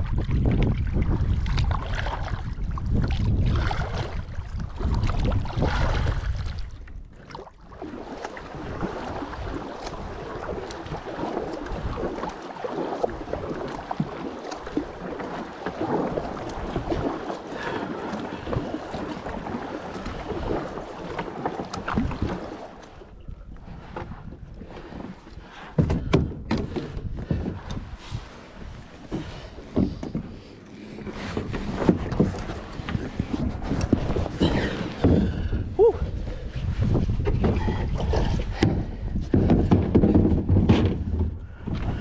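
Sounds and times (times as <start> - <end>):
water lapping against hull: 0.0 - 42.0
water splashing along kayak: 0.0 - 42.0
wind rumbling on microphone: 0.0 - 42.0.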